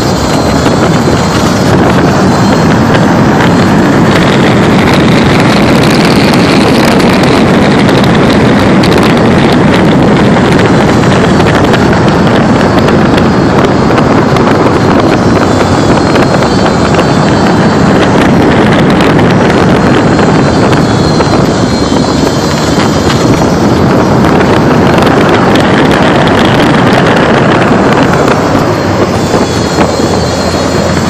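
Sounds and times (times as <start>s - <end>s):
vehicle driving at speed: 0.0s - 31.0s
wind rushing over microphone: 0.0s - 31.0s.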